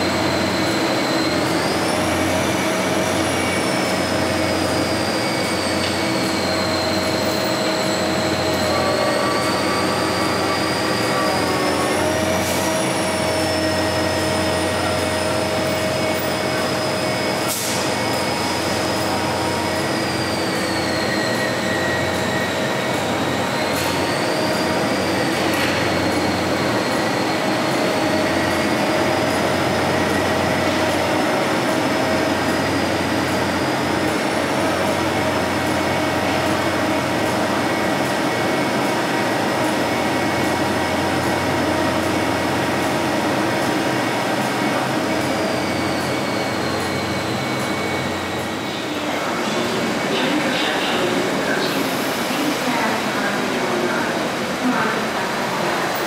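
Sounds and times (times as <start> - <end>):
crane engine and hydraulics: 0.0 - 56.0.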